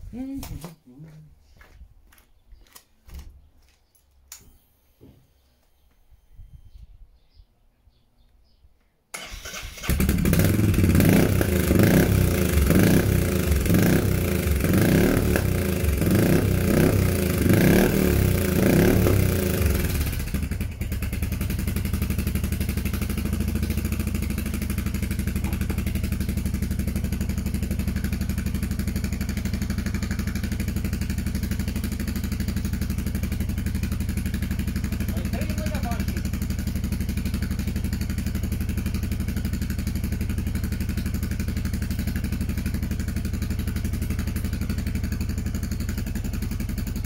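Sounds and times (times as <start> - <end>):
motorcycle engine revving and idling: 9.2 - 47.0.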